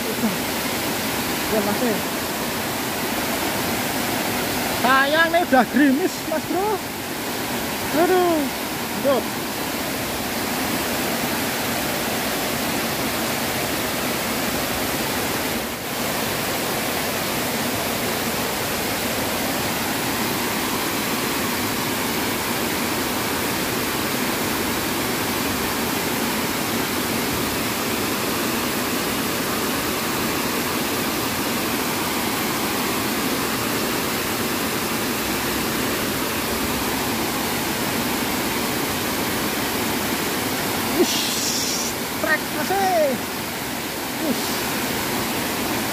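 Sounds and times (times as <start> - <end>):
water rushing over a weir: 0.0 - 45.9.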